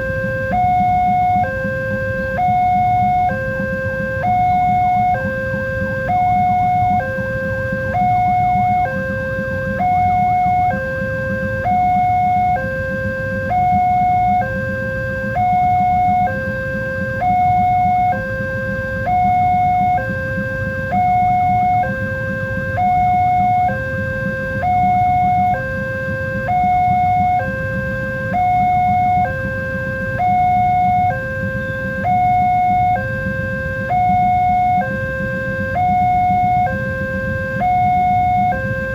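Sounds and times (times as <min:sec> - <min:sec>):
two-tone electronic warning alarm: 0:00.0 - 0:38.9.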